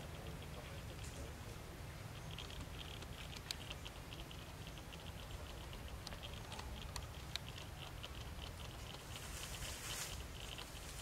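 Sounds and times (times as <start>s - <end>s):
sharp clicks: 2.1s - 11.0s.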